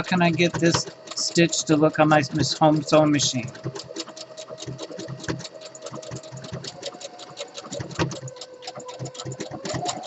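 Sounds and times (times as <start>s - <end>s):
sewing machine stitching: 0.0s - 10.0s.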